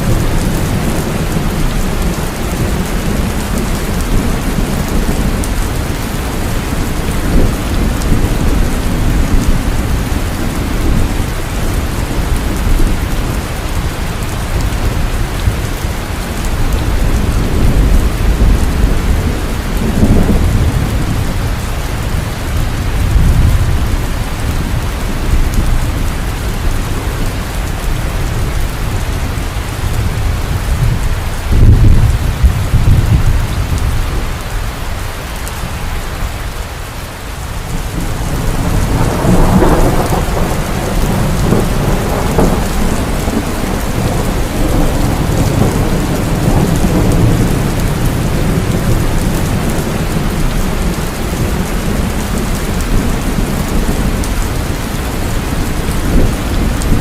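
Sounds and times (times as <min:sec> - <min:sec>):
thunder rumbling: 0:00.0 - 0:36.6, 0:37.5 - 0:57.0
heavy rain pouring: 0:00.0 - 0:57.0.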